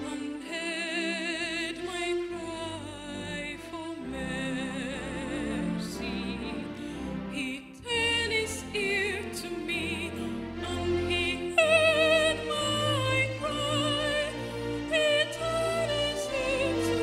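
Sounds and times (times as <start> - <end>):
low musical accompaniment: 0.0 - 17.0
woman singing soprano: 0.0 - 17.0.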